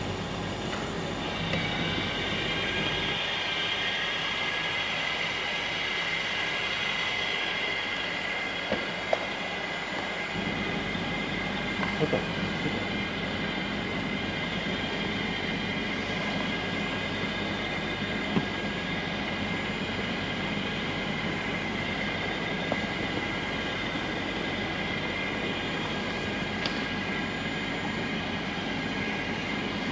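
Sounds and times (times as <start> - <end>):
welder motor whining: 0.0 - 29.9.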